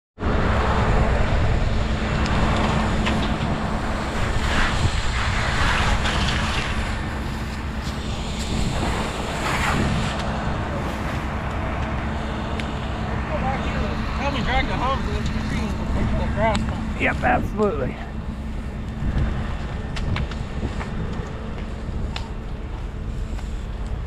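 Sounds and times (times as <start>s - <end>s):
fire engine motor and pump: 0.2s - 24.0s.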